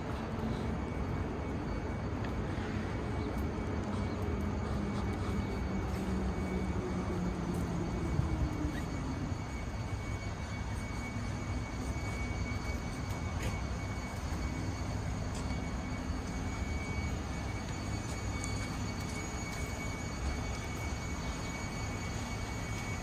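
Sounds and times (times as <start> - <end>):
city street background noise: 0.0 - 23.0.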